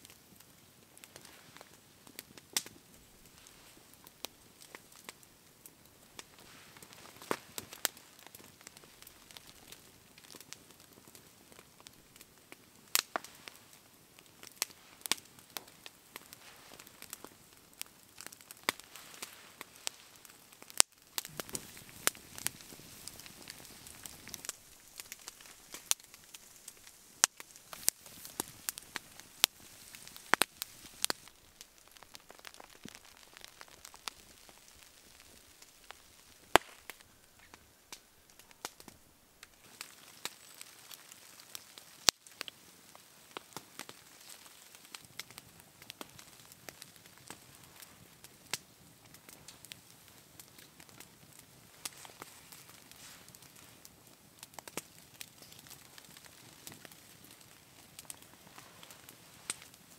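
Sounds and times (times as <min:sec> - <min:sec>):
campfire crackling and popping: 0:00.0 - 0:59.9
faint steady hiss: 0:00.0 - 0:59.9.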